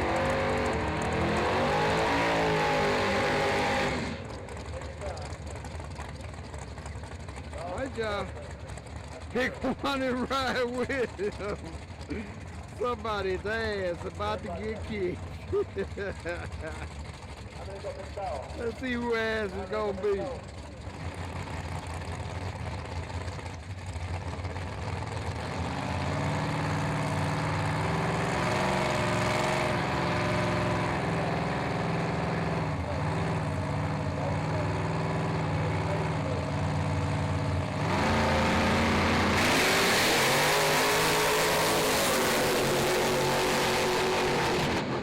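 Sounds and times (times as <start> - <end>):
drag-race car engines: 0.0 - 45.0.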